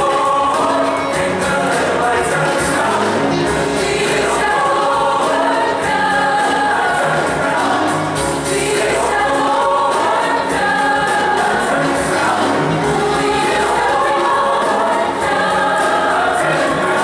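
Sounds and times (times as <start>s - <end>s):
choir singing gospel song: 0.0s - 17.0s.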